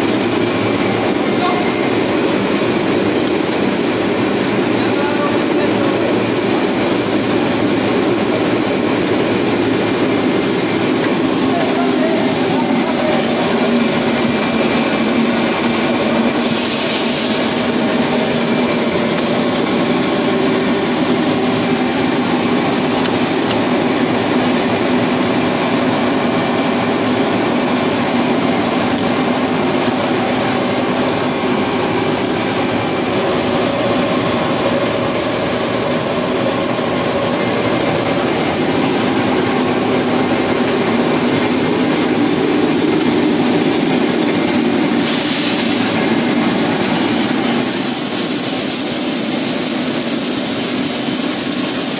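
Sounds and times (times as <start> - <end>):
extruder machine running: 0.0 - 51.9
thin high steady whine: 0.0 - 51.9.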